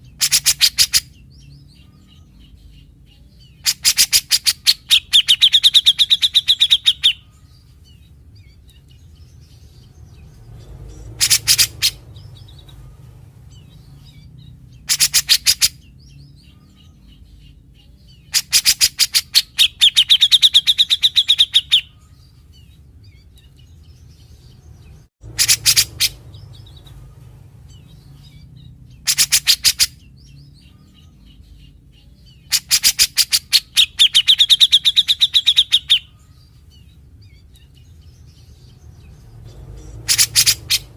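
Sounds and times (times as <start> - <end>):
bird calling in rattling phrases: 0.0 - 2.6, 3.4 - 17.5, 18.2 - 40.9.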